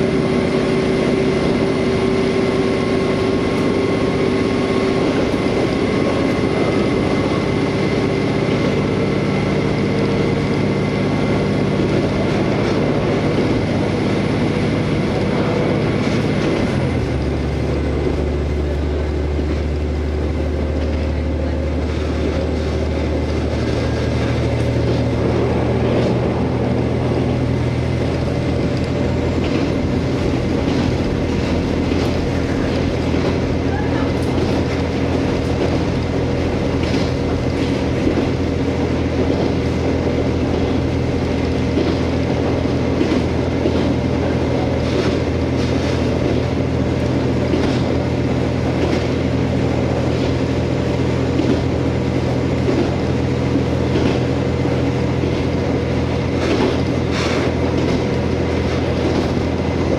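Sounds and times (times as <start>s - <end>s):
diesel engine hum: 0.0s - 59.9s
train running on rails: 0.0s - 59.9s.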